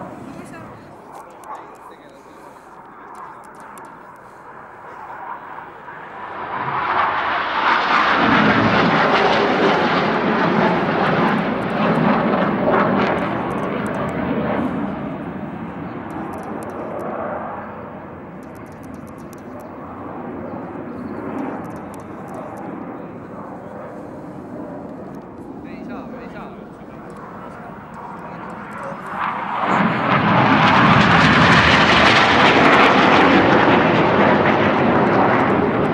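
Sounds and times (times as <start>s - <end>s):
jets passing over roaring: 0.0s - 35.9s.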